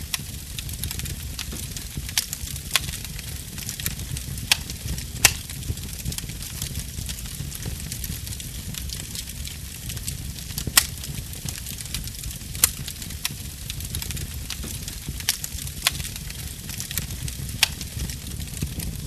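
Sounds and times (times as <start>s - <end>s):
burning wood popping: 0.0s - 19.0s
fire crackling: 0.0s - 19.0s
fire rumbling: 0.0s - 19.0s.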